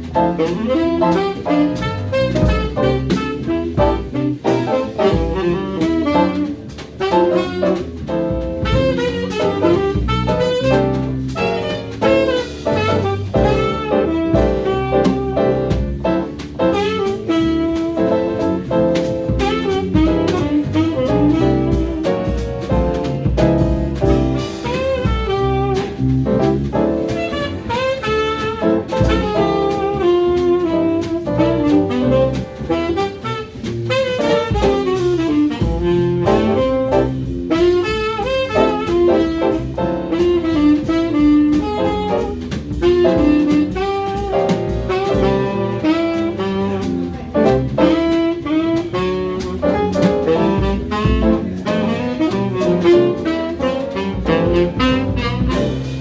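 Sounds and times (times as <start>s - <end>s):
drum kit: 0.0s - 56.0s
piano: 0.0s - 56.0s
walking double bass: 0.0s - 56.0s
saxophone melody: 0.3s - 56.0s.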